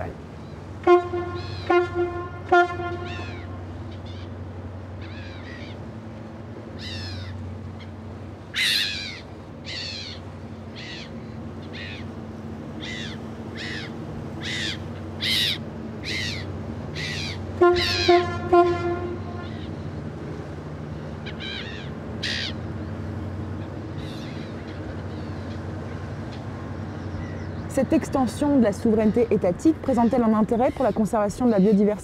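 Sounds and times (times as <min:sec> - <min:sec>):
ship engine drone: 0:00.0 - 0:32.0
birds calling falling cries: 0:00.3 - 0:32.0.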